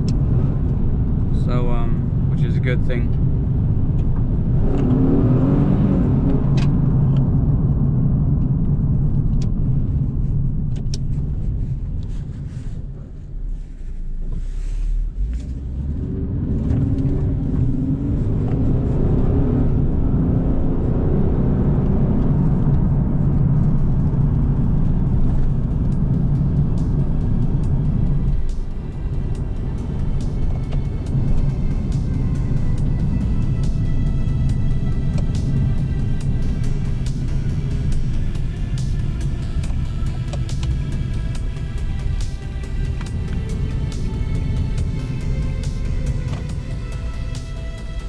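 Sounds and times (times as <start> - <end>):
car engine: 0.0 - 48.0
road noise: 0.0 - 48.0.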